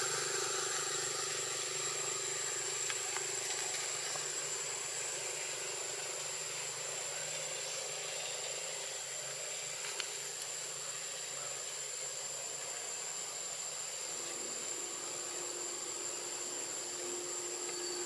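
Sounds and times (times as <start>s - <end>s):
high-pitched whine: 0.0s - 18.0s
outdoor background hiss: 0.0s - 18.0s.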